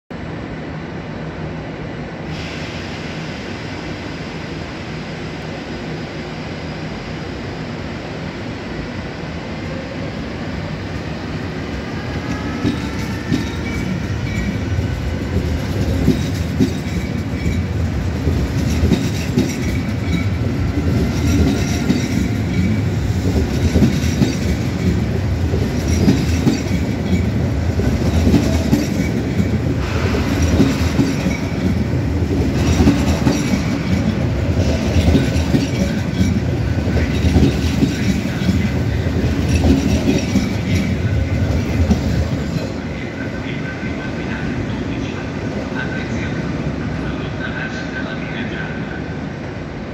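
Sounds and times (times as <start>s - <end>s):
train wheels rumbling: 7.2s - 48.7s.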